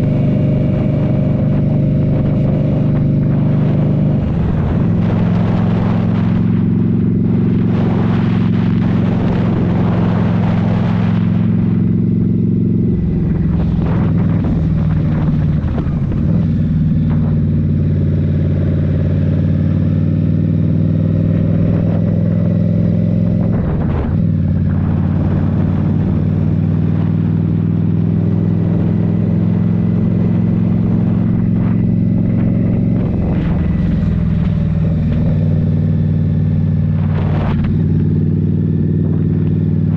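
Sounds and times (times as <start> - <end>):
motorcycle engine riding: 0.0 - 39.9
wind rushing over microphone: 0.0 - 39.9.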